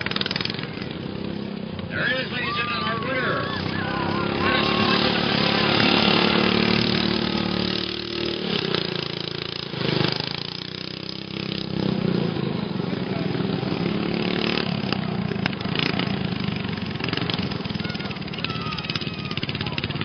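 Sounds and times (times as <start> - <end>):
lawn mower engines revving: 0.0 - 20.0.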